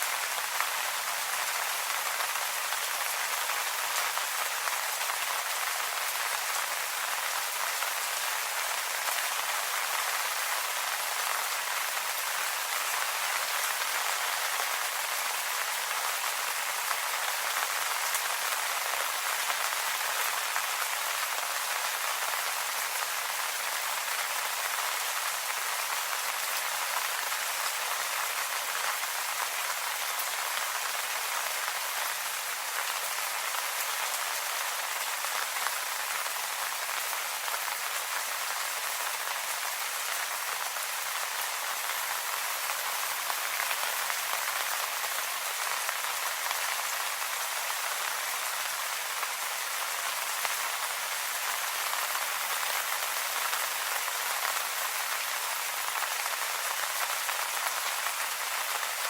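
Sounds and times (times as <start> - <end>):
steady rain on leaves: 0.0 - 59.0.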